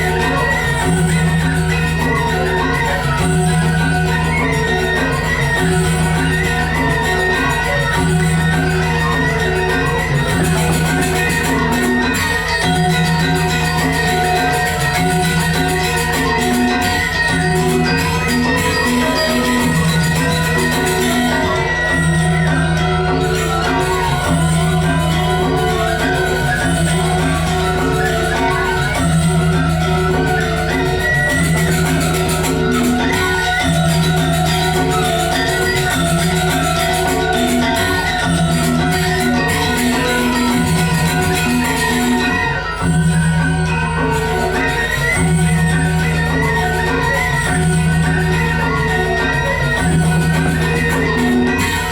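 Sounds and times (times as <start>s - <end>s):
gamelan dance music: 0.0s - 51.9s
metallophones striking quick notes: 0.0s - 51.9s.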